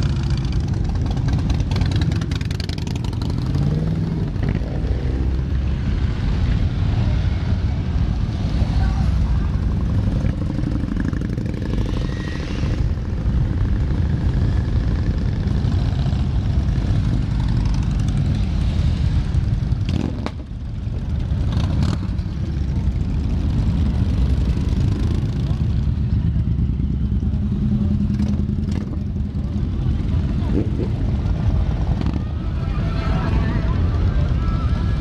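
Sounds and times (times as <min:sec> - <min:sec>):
motorcycles riding past: 0:00.0 - 0:35.0.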